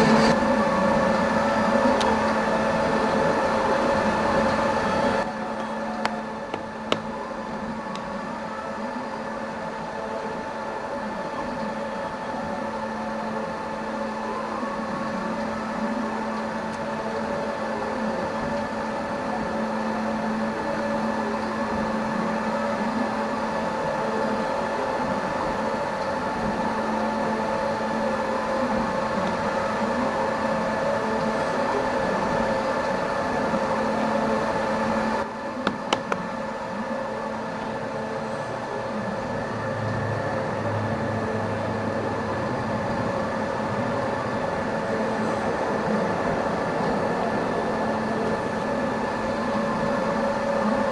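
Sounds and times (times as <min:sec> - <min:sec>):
milling machine whirring: 0:00.0 - 0:50.9.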